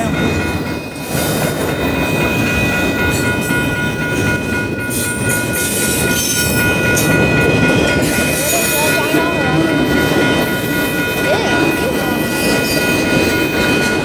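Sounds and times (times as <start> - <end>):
freight train wheels rattling on rails: 0.0 - 14.0
high-pitched ringing tones: 1.7 - 14.0.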